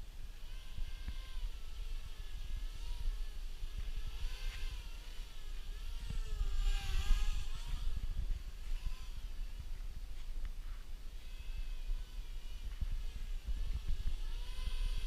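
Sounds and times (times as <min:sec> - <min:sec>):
quadcopter motors whining: 0:00.0 - 0:15.0
steady low rumble: 0:00.0 - 0:15.0.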